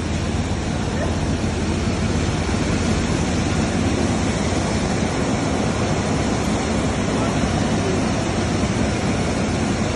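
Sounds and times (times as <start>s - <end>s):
seed cleaning machine running: 0.0s - 9.9s.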